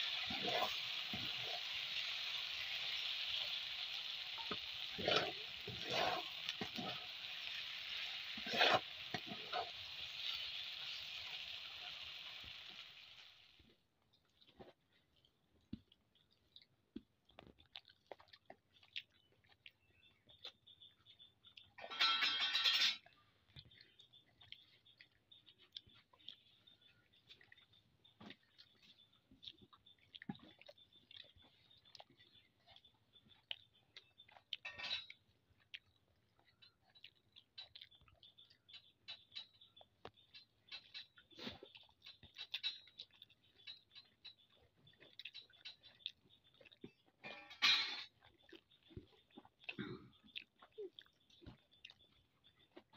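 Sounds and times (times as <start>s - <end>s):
person chewing: 0.0s - 10.4s, 14.1s - 21.8s, 23.4s - 47.2s, 48.0s - 52.9s.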